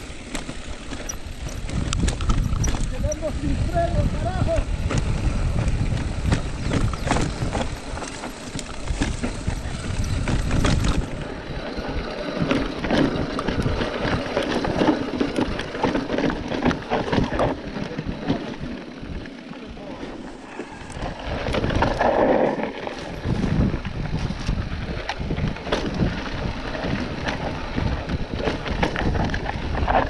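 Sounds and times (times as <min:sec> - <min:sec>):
bike clattering over bumps: 0:00.0 - 0:30.0
bike tyres crunching over stones: 0:00.0 - 0:30.0
wind buffeting microphone: 0:00.0 - 0:30.0.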